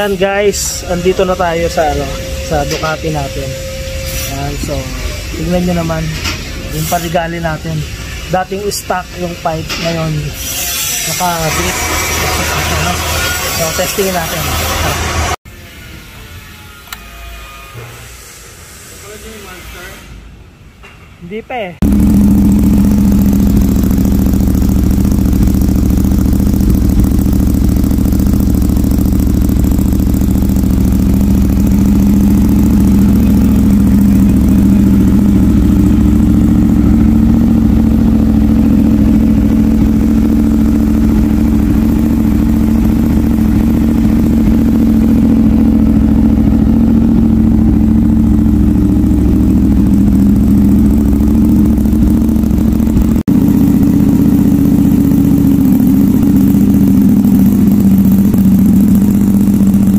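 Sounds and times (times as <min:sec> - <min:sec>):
motorcycle engine idling: 0:00.0 - 0:10.1, 0:21.8 - 0:59.9.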